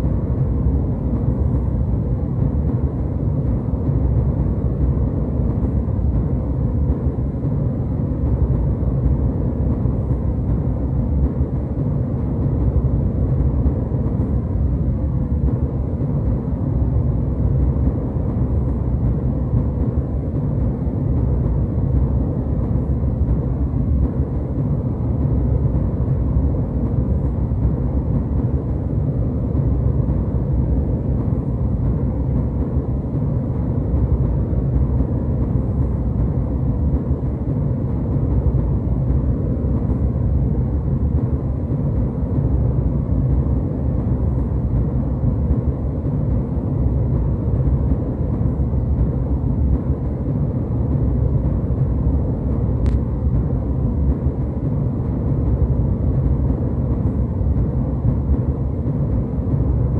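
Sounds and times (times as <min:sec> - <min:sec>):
jet engine and airflow drone: 0:00.0 - 0:59.9.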